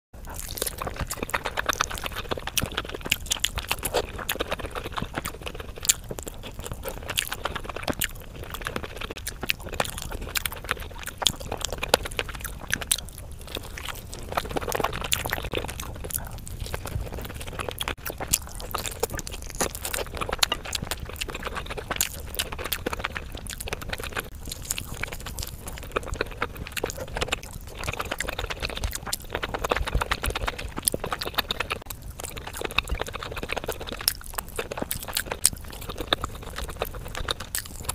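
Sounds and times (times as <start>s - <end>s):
chewing and mouth-smacking: 0.2s - 37.9s.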